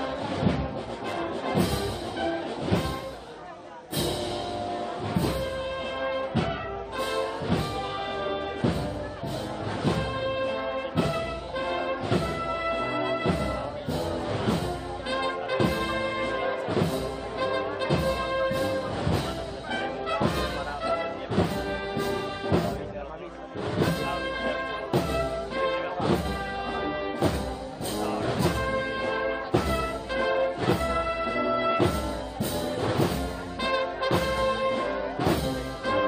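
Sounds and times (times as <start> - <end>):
steady drum beat: 0.0 - 36.0.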